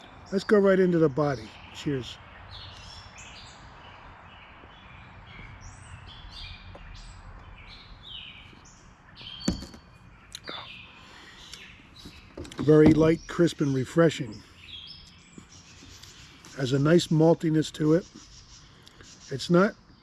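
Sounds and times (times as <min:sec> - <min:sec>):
songbirds chirping and singing: 0:00.0 - 0:20.0.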